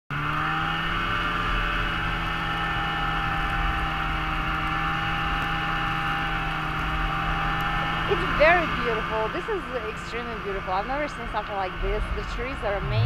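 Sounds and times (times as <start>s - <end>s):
snowmobile engine running: 0.1s - 13.0s.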